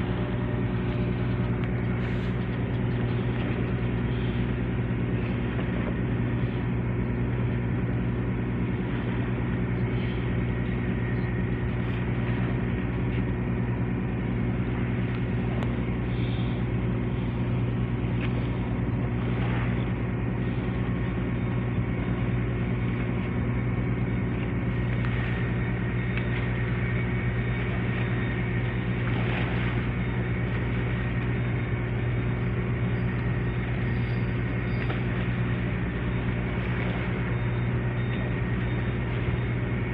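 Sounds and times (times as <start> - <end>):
large engine droning steadily: 0.0 - 39.9.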